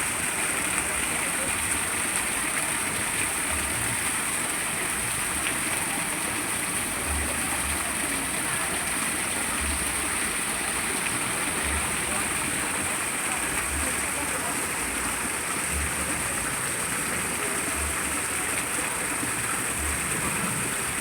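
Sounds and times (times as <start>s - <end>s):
water pouring from a spout: 0.0s - 21.0s.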